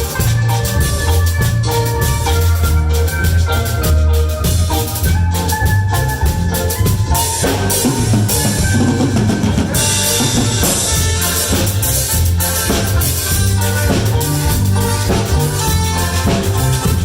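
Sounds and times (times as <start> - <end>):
bass line: 0.0 - 17.0
cumbia band music: 0.0 - 17.0
drums: 0.0 - 17.0.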